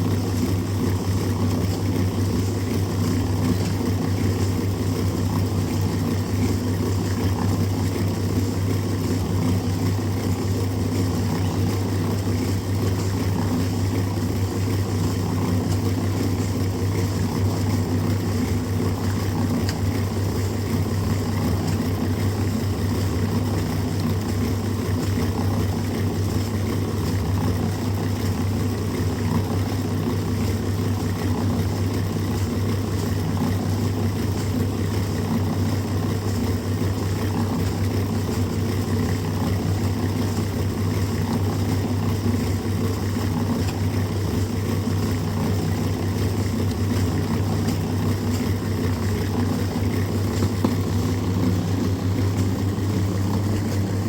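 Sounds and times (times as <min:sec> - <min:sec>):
motor droning steadily: 0:00.0 - 0:54.0.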